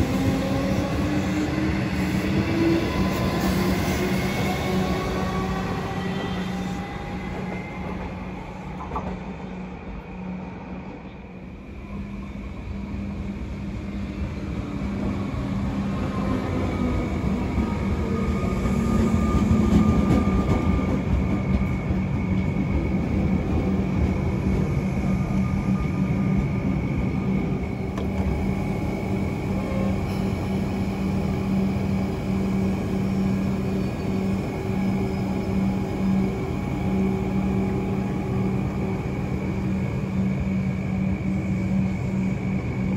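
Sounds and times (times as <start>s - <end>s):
train standing hum: 0.0s - 42.9s.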